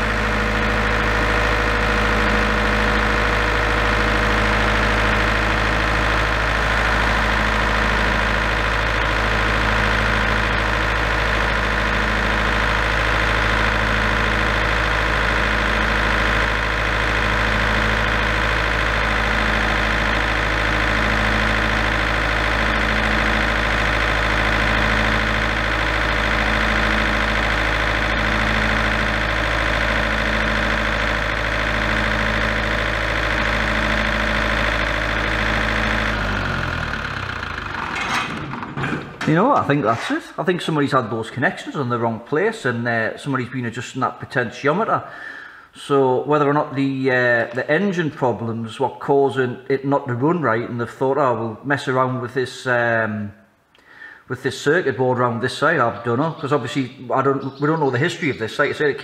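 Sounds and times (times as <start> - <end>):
diesel generator running: 0.0 - 59.0.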